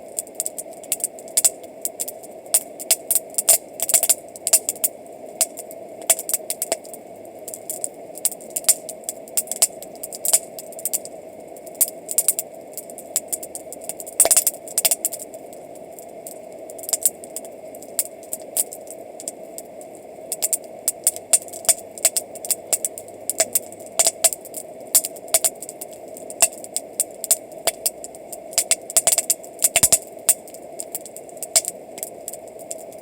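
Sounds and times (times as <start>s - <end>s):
campfire crackling and popping: 0.0s - 33.0s
steady background hiss: 0.0s - 33.0s.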